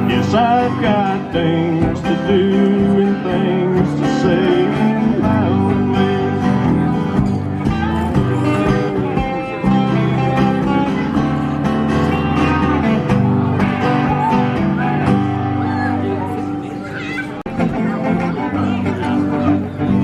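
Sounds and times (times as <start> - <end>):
instrumental country music: 0.0 - 20.0.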